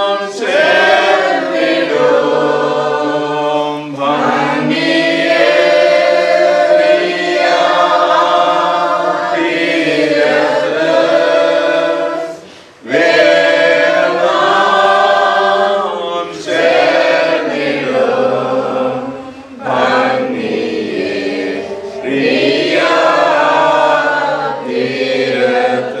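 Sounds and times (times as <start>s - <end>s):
group of voices chanting: 0.0s - 26.0s.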